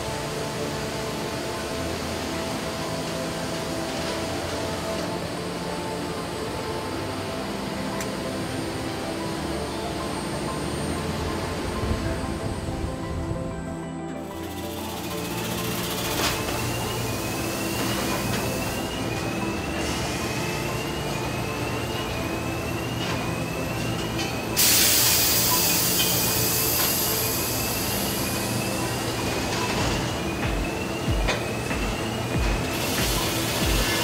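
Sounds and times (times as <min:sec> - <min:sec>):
machinery hum: 0:00.0 - 0:34.0.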